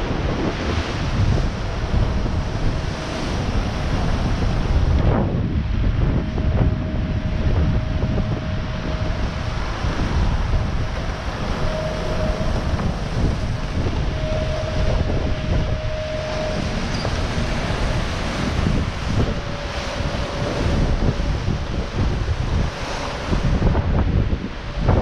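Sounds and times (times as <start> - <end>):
faint steady whine: 0.0 - 25.0
water rushing past hull: 0.0 - 25.0
wind buffeting microphone: 0.0 - 25.0.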